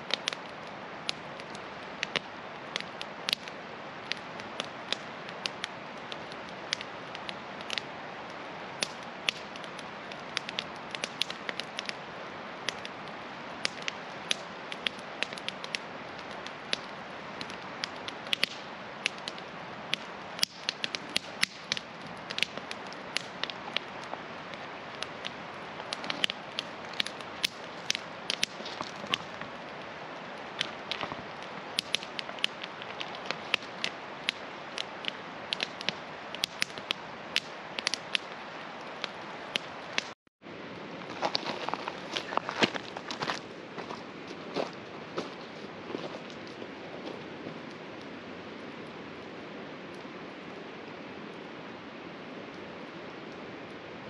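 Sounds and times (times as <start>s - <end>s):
campfire crackling: 0.0s - 54.0s
river rushing: 0.0s - 54.0s.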